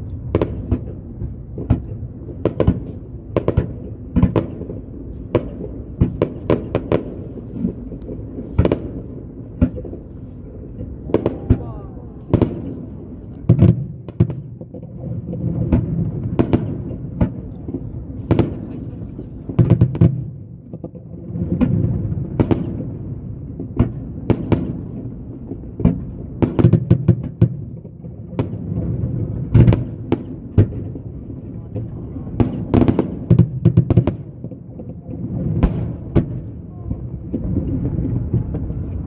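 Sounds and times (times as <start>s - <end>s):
firework shells bursting: 0.0s - 36.7s.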